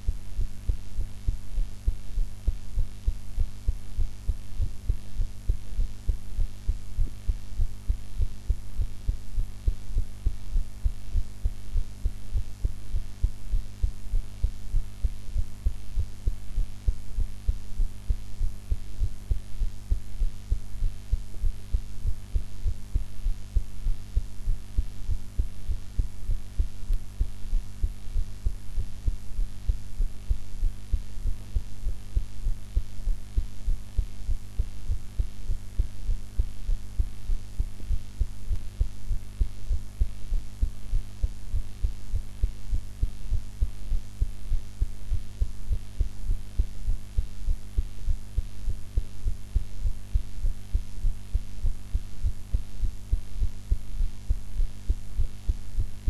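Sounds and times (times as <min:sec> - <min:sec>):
faint steady hum: 0:00.0 - 0:56.0
heart beating: 0:00.0 - 0:56.0.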